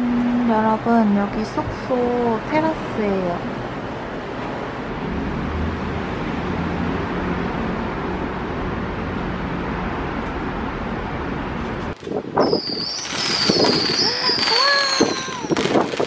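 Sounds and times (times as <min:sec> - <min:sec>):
distant road traffic: 0:00.0 - 0:14.5.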